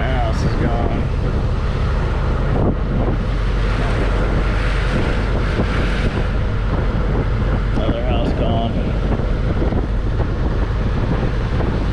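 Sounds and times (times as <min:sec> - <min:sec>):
low engine rumble: 0:00.0 - 0:11.9
wind buffeting microphone: 0:00.0 - 0:11.9.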